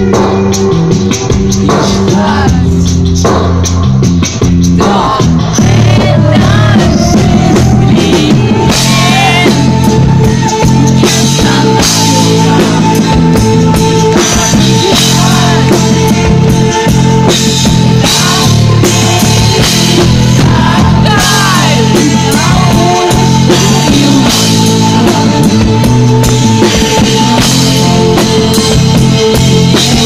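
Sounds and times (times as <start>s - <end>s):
drum kit: 0.0s - 30.0s
live rock band playing: 0.0s - 30.0s
person singing: 1.6s - 3.1s, 4.8s - 30.0s.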